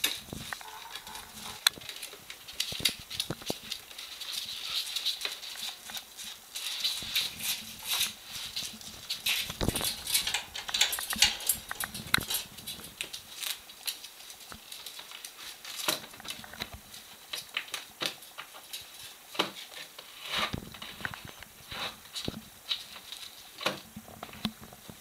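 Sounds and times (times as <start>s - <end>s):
claws scratching on wooden floor: 0.0s - 23.8s
animal gnawing plastic: 0.0s - 25.0s
plastic strip crinkling: 0.0s - 25.0s.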